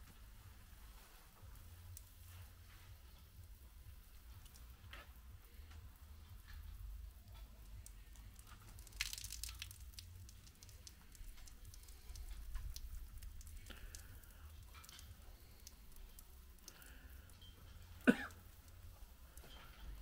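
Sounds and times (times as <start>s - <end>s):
spray pattering on wall: 0.7s - 20.0s.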